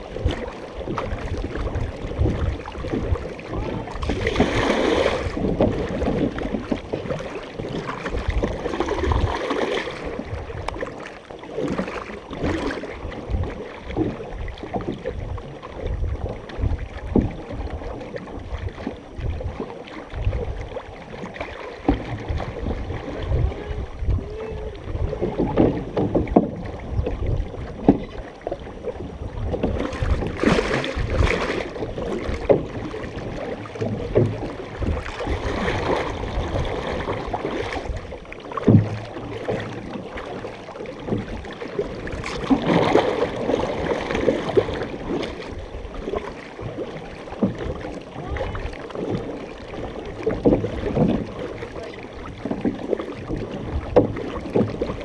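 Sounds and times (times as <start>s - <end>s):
paddles knocking against canoe: 0.0s - 55.0s
paddles splashing in water: 0.0s - 55.0s
wind rumble on microphone: 0.0s - 55.0s.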